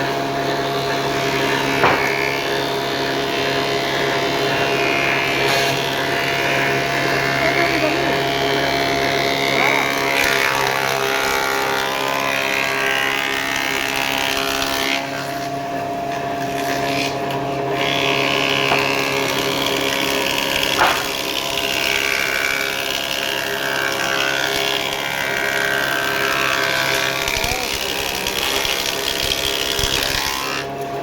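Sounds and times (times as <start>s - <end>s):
power tool motor humming: 0.0s - 31.0s
rough cutting noise: 0.0s - 31.0s.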